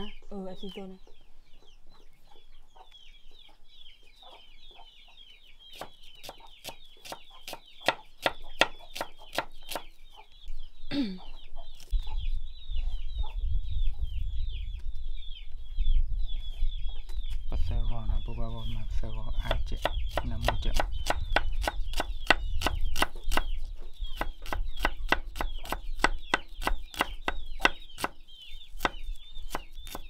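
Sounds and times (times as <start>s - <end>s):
chickens peeping and clucking: 0.0s - 30.0s.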